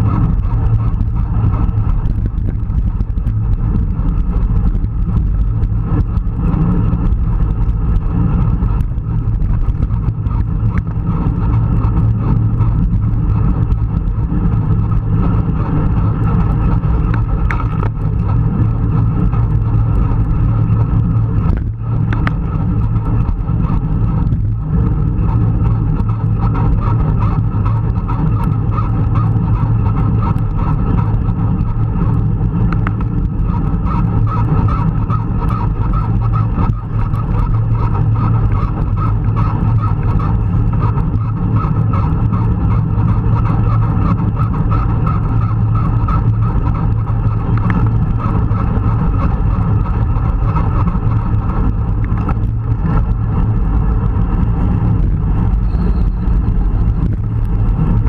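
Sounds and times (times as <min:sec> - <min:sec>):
bike tyres rolling on tarmac: 0:00.0 - 0:58.0
wind rushing over microphone: 0:00.0 - 0:58.0.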